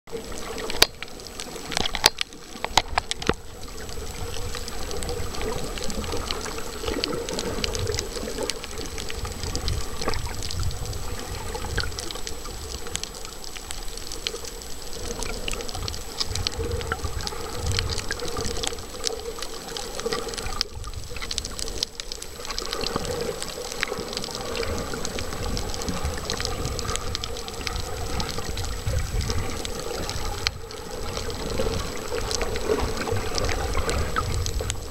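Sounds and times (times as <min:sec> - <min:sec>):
crackle of tiny clicks: 0:00.1 - 0:34.9
underwater rumble and swish: 0:00.1 - 0:34.9.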